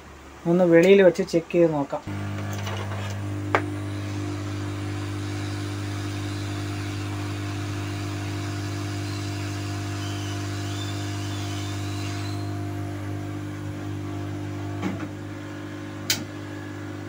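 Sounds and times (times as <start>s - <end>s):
hot air blower whirring: 2.1s - 17.0s.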